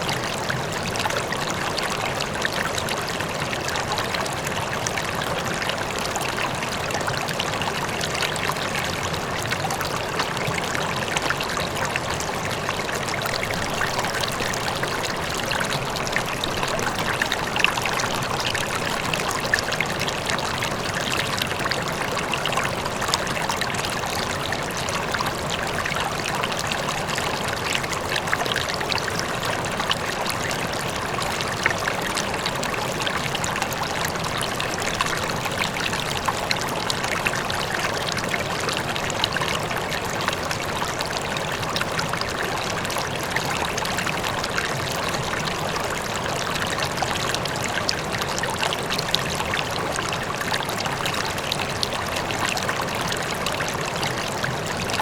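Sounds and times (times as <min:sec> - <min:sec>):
faint waterfall: 0:00.0 - 0:55.0
river rushing and splashing: 0:00.0 - 0:55.0.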